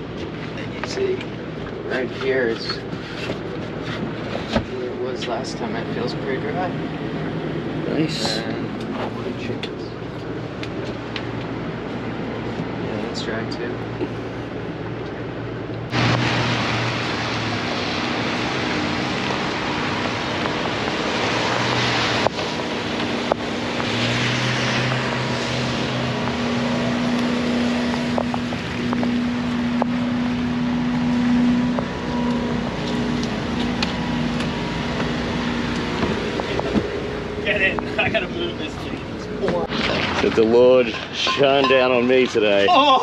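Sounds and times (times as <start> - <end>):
vehicle engine running: 0.0 - 42.7.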